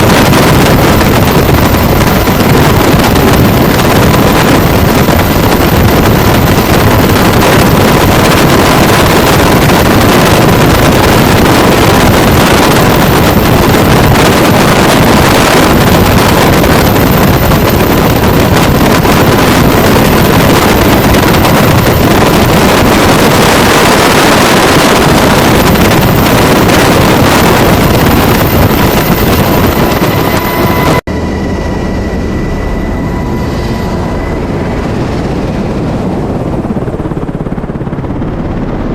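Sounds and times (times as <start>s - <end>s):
helicopter high whine: 0.0s - 38.9s
helicopter turbine and rotor noise: 0.0s - 38.9s
rotor wash buffeting microphone: 0.0s - 38.9s.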